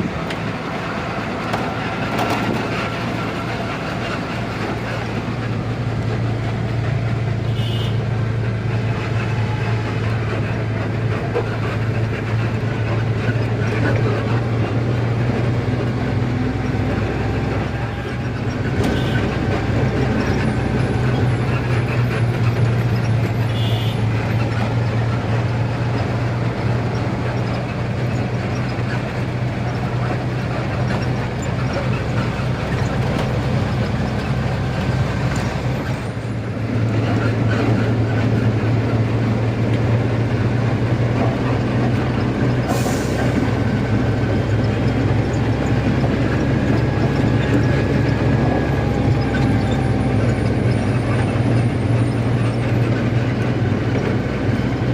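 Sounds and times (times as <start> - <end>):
truck engine humming: 0.0 - 54.9.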